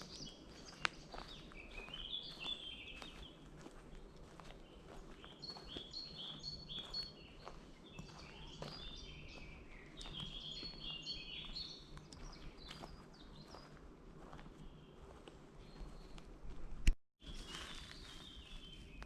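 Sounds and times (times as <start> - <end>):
songbirds singing: 0.0 - 16.5, 17.2 - 19.0
faint footsteps on path: 0.0 - 19.0.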